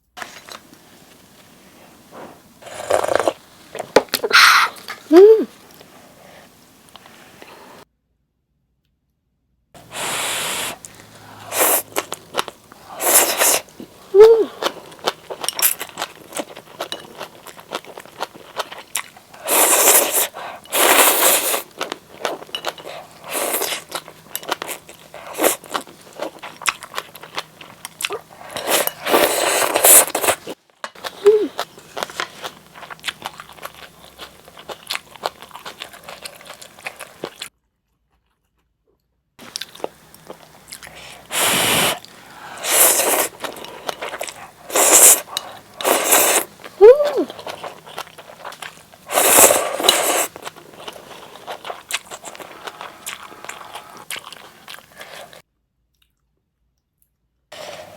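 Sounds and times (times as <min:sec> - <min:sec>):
wet chewing: 0:00.2 - 0:06.0, 0:09.8 - 0:56.2.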